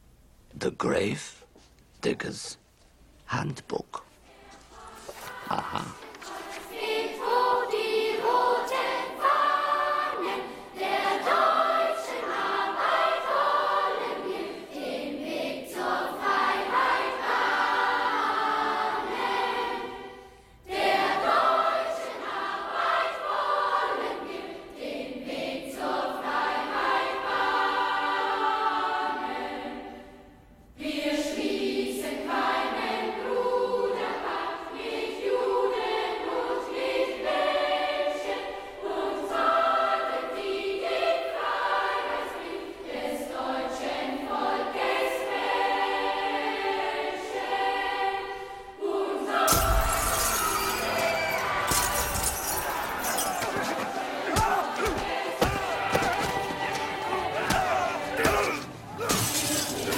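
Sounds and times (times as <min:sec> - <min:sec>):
children's choir singing: 0:04.4 - 0:52.0, 0:52.7 - 0:59.9.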